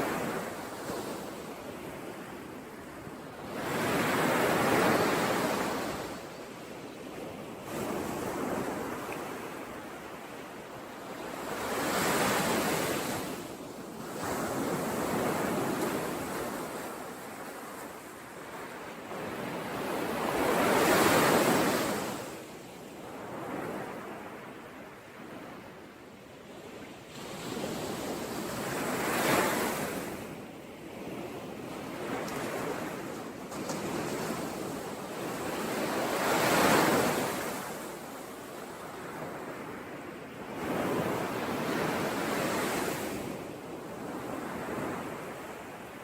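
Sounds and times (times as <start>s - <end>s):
sea waves breaking on shore: 0.0s - 25.9s, 26.5s - 46.0s.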